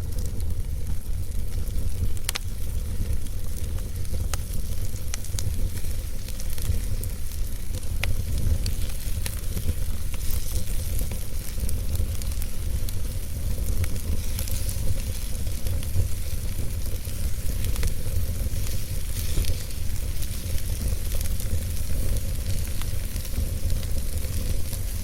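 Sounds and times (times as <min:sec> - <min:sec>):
fire flames rumbling: 0:00.0 - 0:25.0
logs crackling and popping: 0:00.0 - 0:25.0.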